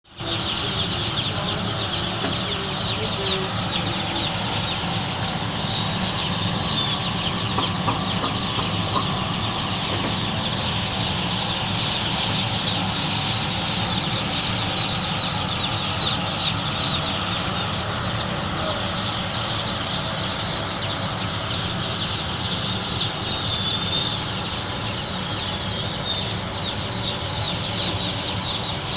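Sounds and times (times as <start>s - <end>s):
chicks peeping: 0.1s - 28.9s
low hum: 0.1s - 28.9s.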